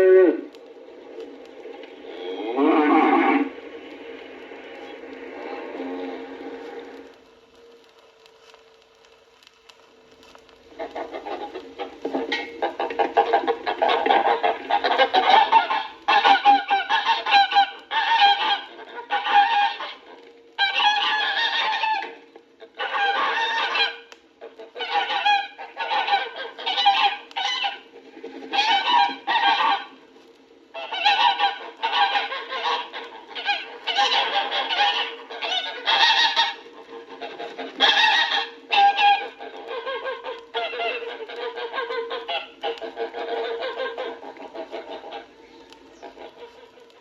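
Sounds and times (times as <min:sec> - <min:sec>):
geese cackling: 0:00.0 - 0:07.2, 0:10.4 - 0:47.0
faint steady hum: 0:00.0 - 0:47.0.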